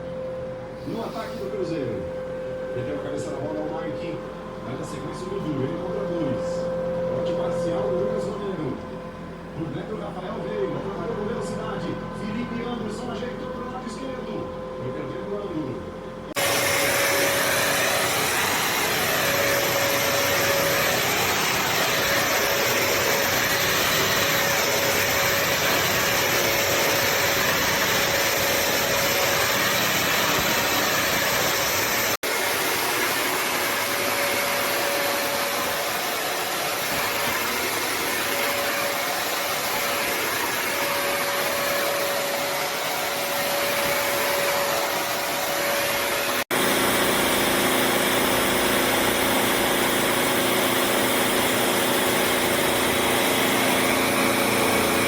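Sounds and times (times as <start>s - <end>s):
wet-dry vacuum running: 0.0s - 55.0s.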